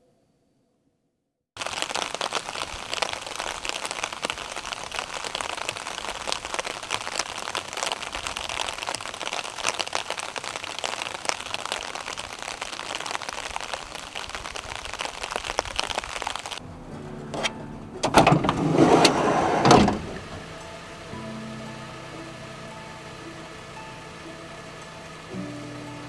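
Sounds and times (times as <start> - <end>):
rain on wet pavement: 1.6 - 16.6, 18.4 - 26.0.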